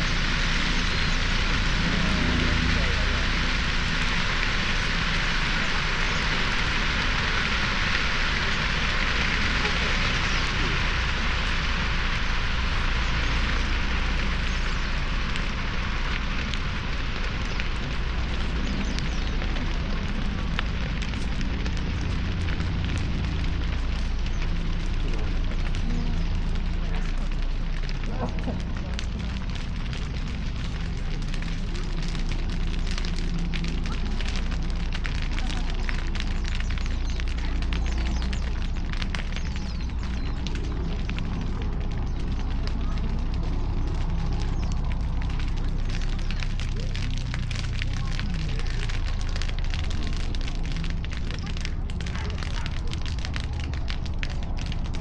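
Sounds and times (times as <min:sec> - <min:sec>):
crackling hiss of burning grass: 0:00.0 - 0:55.0
low rumble of flames: 0:00.0 - 0:55.0
sharp pops of fire: 0:00.0 - 0:55.0.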